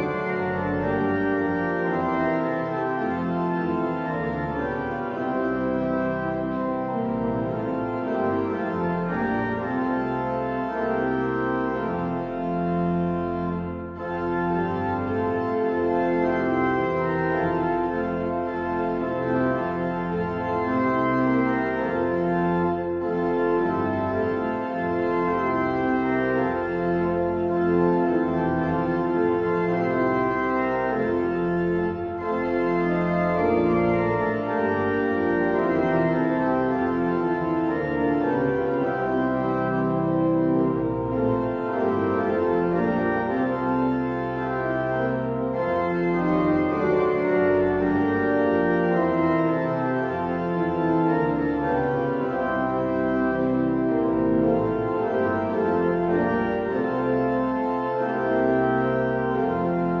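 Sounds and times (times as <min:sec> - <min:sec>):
organ playing held chords: 0:00.0 - 1:00.0.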